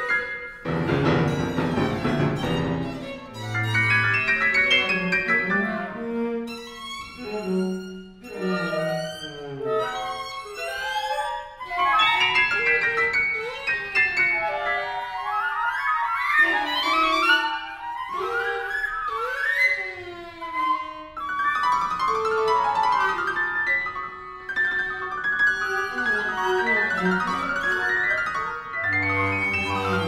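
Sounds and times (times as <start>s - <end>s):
chamber music ensemble: 0.0s - 30.0s.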